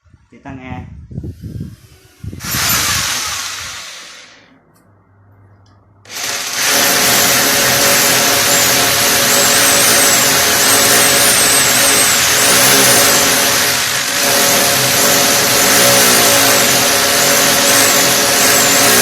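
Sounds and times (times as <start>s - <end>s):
electric power drill running: 1.5s - 4.5s, 6.1s - 19.0s.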